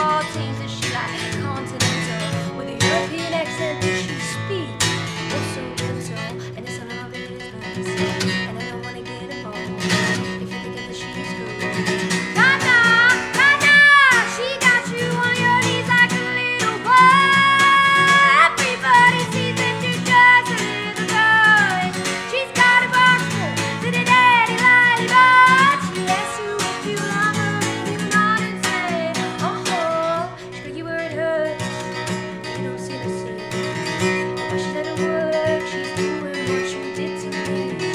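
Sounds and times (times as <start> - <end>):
acoustic guitar strumming: 0.0 - 37.9
woman singing: 0.0 - 37.9.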